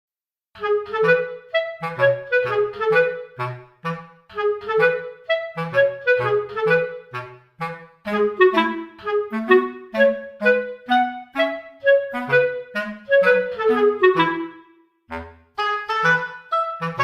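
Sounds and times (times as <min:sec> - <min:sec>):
jaunty clarinet music: 0:00.6 - 0:17.0.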